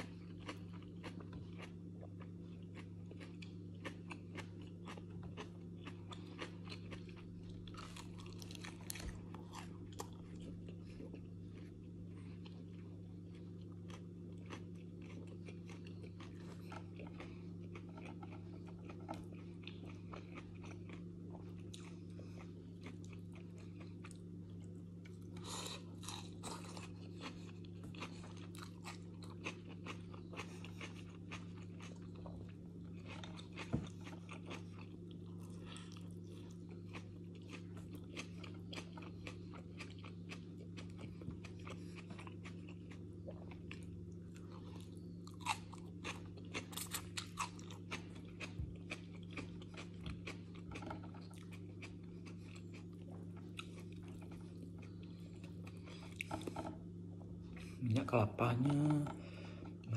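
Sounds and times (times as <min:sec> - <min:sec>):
person crunching vegetables: 0:00.0 - 0:56.8
steady low hum: 0:00.0 - 0:59.9.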